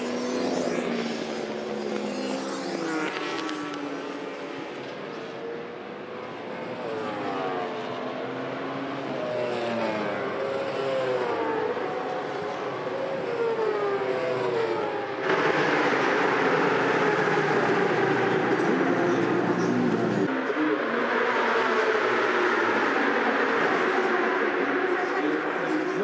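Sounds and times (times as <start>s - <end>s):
harsh engine noise close by: 0.0s - 26.0s
racing motorcycle engine: 0.0s - 26.0s.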